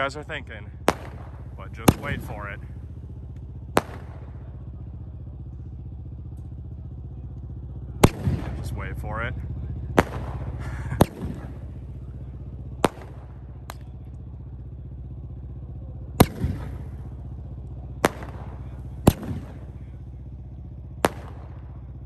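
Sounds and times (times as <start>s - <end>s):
firework bangs: 0.0s - 22.0s
steady low hum: 0.0s - 22.0s.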